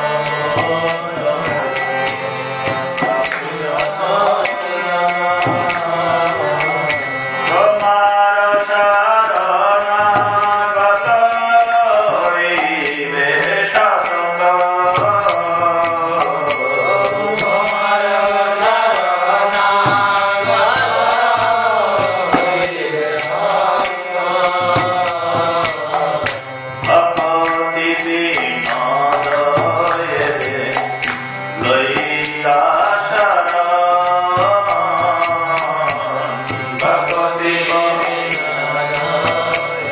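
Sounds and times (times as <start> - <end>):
man chanting prayers: 0.0 - 39.9
fast high ticking beat: 0.3 - 39.9.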